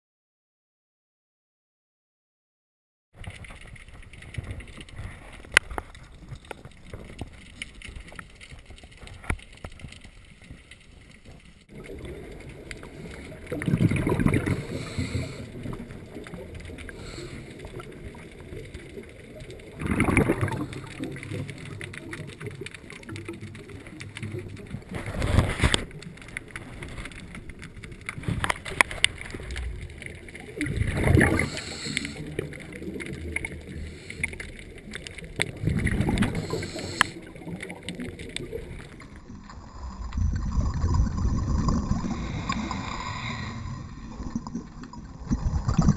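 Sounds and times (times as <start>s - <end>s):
low water noise: 3.1s - 45.9s
diver's regulator bubbling: 3.2s - 45.9s.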